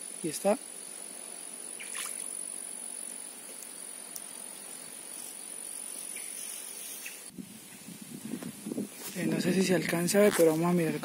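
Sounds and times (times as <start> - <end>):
insects buzzing: 0.0 - 11.0
outdoor hiss: 0.0 - 11.0.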